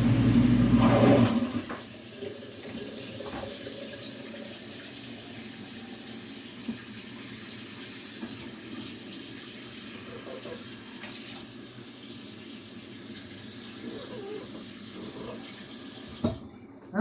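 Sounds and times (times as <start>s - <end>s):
faucet running: 0.0s - 16.4s.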